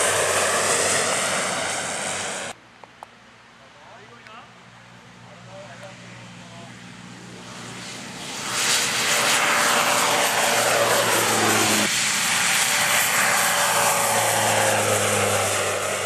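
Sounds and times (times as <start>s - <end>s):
turboprop plane taking off: 0.0s - 2.6s, 4.6s - 16.0s.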